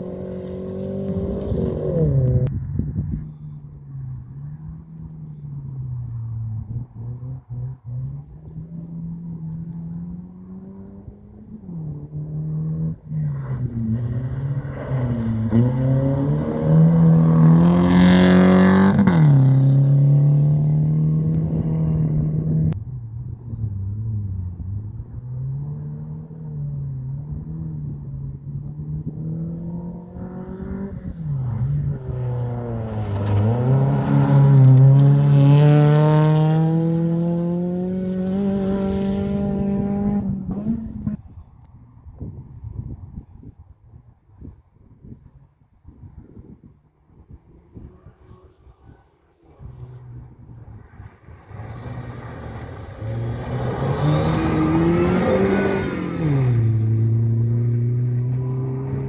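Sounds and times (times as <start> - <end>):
rally car engines revving: 0.0 - 2.5, 3.1 - 41.5, 47.0 - 59.0
rally car passing by: 0.0 - 2.5, 3.9 - 22.8, 23.4 - 41.2, 47.2 - 59.0.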